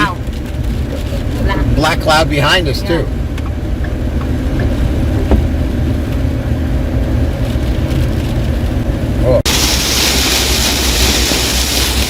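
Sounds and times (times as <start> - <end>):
car road and engine drone: 0.0 - 12.0
light rain: 0.0 - 12.0.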